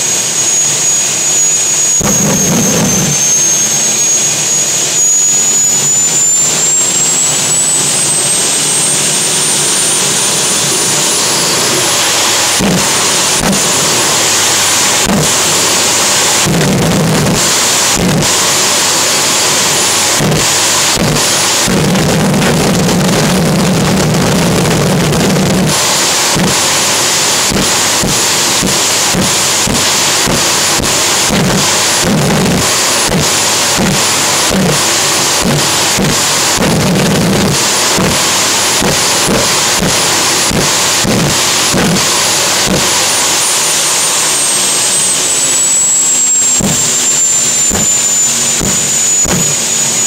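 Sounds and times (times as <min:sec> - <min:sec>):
afterburner bangs: 0:00.0 - 0:04.8, 0:08.4 - 0:50.0
jet engine whining: 0:00.0 - 0:50.0.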